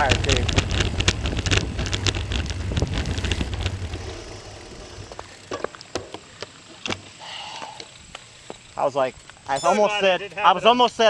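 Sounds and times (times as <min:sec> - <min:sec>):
bicycle rolling with wind noise: 0:00.0 - 0:11.0.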